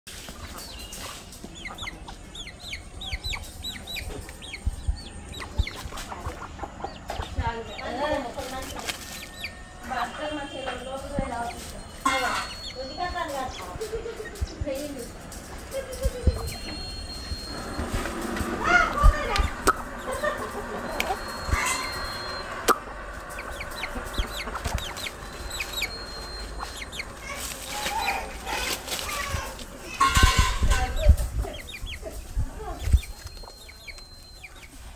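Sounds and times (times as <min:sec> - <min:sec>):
chick peeping: 0:00.1 - 0:34.9.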